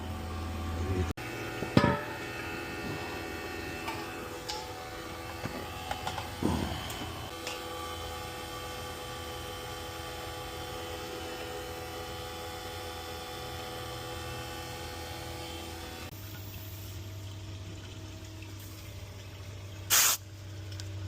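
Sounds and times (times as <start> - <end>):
electrical hum with steady tones: 0.0 - 21.0.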